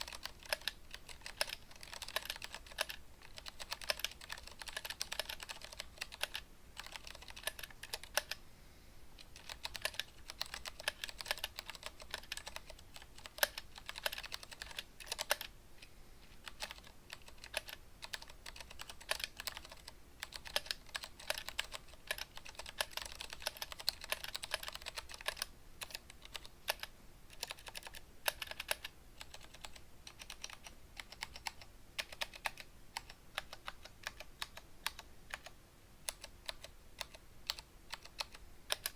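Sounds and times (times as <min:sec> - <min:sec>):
mechanical keyboard typing: 0:00.0 - 0:08.4, 0:09.2 - 0:15.5, 0:16.4 - 0:38.9.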